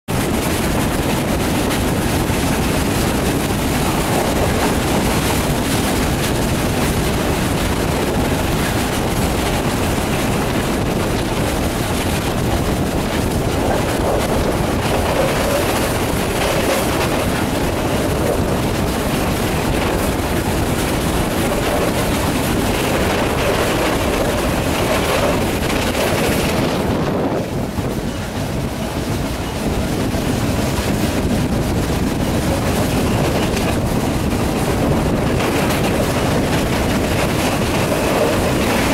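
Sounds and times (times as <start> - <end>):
train wheels rumbling on rails: 0.1 - 38.9.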